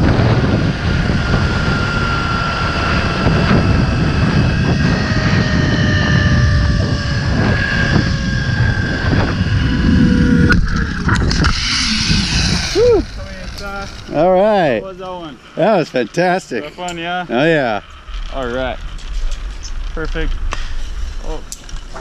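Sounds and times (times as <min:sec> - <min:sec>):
wind rumble on microphone: 0:00.0 - 0:15.6, 0:17.3 - 0:22.0
zipline pulleys whirring: 0:00.0 - 0:22.0.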